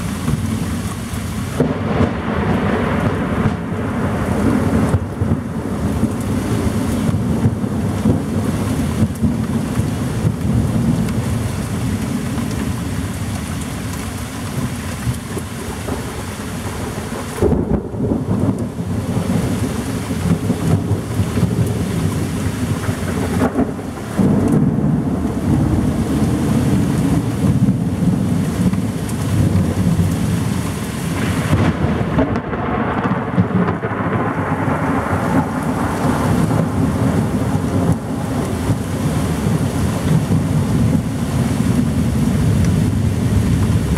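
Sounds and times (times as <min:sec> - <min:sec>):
heavy rain: 0:00.0 - 0:43.9
thunder rumbling: 0:00.0 - 0:43.9.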